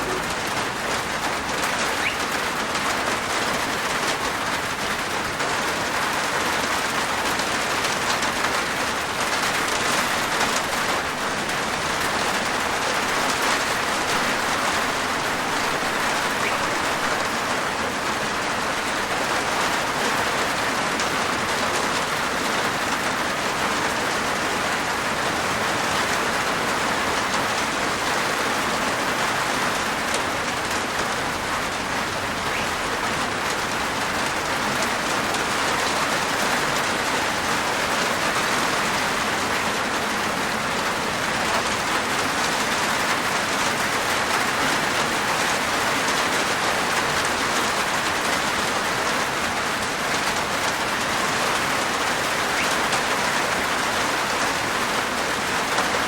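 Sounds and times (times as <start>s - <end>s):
rain on a rooftop: 0.0s - 56.0s.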